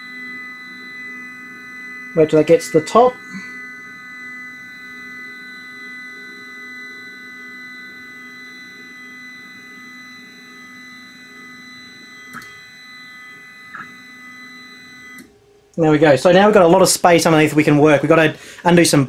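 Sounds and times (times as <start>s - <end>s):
stepper motor buzzing: 0.0s - 15.5s.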